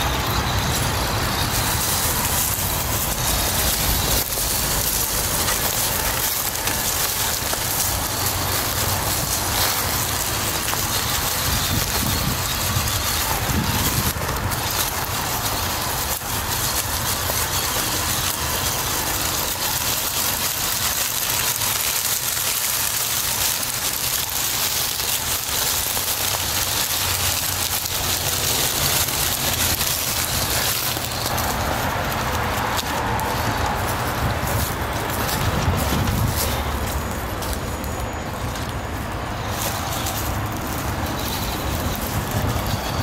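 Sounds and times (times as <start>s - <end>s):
toy truck tyres crunching leaves: 0.0s - 43.0s.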